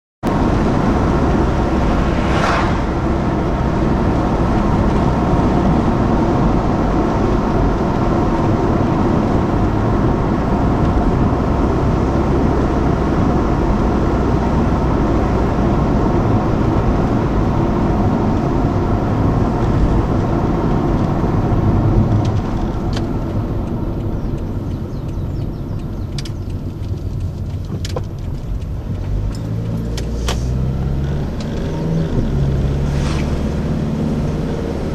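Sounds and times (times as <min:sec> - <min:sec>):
car engine and road rumble: 0:00.2 - 0:34.9.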